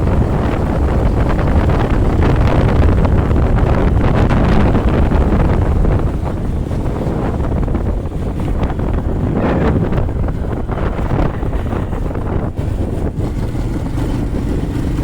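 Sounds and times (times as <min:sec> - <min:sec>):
motorcycle and road noise: 0:00.0 - 0:15.0
wind buffeting microphone: 0:00.0 - 0:15.0.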